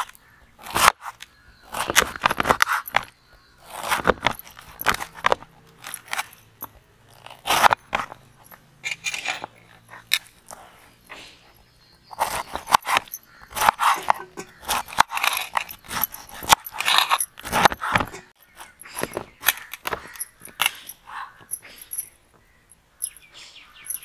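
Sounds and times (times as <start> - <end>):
knife crunching through pineapple: 0.0 - 11.0, 12.1 - 21.4.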